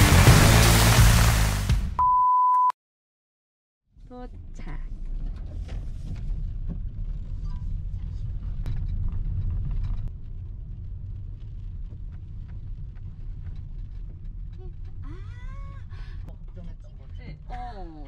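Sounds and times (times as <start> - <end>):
car engine and tyre noise: 0.0 - 2.0, 4.0 - 17.2.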